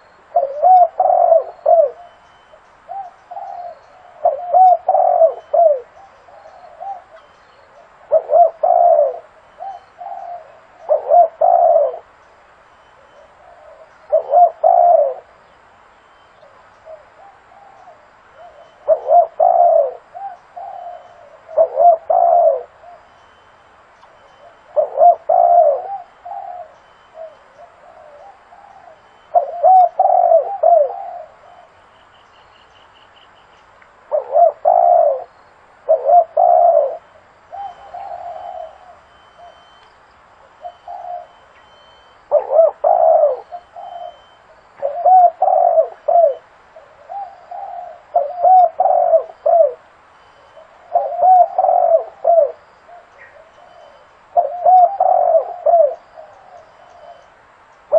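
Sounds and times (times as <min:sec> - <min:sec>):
dove cooing: 0:00.0 - 0:12.2, 0:12.9 - 0:15.4, 0:16.4 - 0:31.9, 0:34.0 - 0:39.8, 0:40.4 - 0:57.9.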